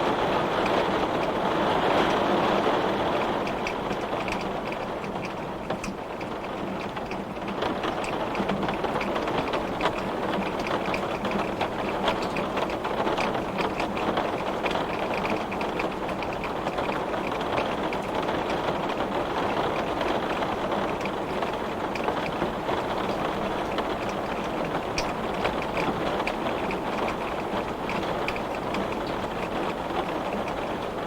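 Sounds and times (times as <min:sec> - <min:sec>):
heavy rain on glass: 0:00.0 - 0:31.0.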